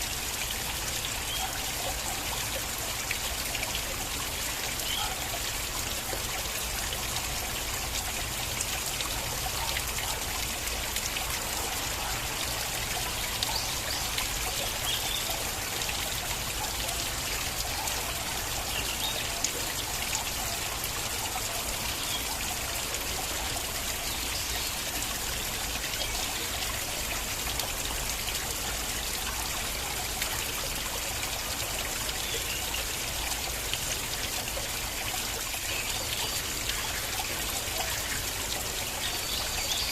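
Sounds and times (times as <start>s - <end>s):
small splashes and drips: 0.0s - 39.9s
stream water flowing: 0.0s - 39.9s.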